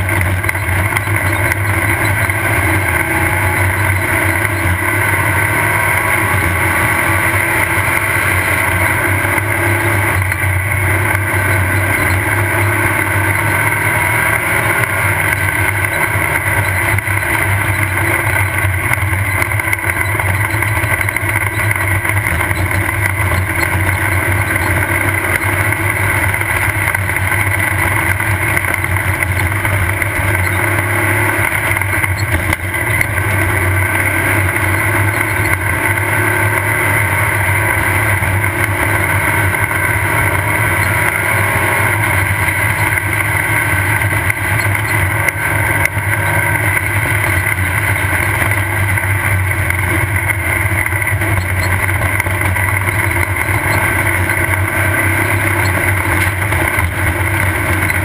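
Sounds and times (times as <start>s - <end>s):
race car engine running: 0.0s - 58.0s.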